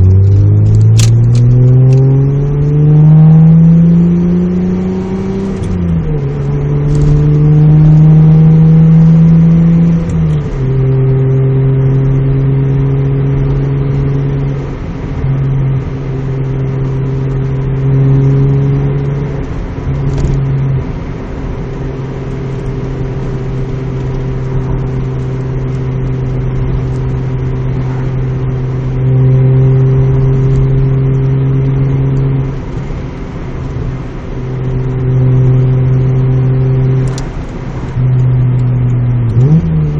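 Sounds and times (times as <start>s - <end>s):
car exhaust drone from inside cabin: 0.0s - 39.9s.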